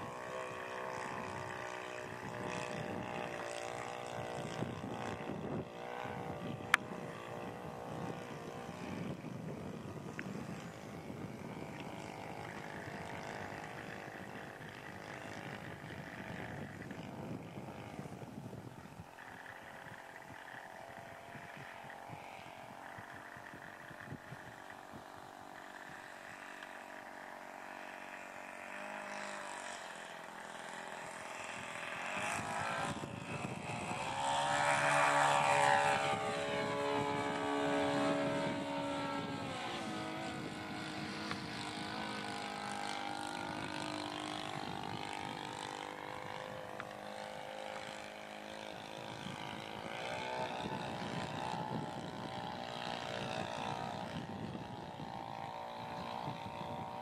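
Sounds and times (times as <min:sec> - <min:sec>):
model airplane engine drone: 0:00.0 - 0:57.0.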